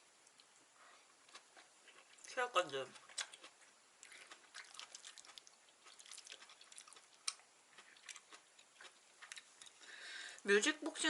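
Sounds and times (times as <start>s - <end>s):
person chewing with wet smacking: 0.2s - 9.9s.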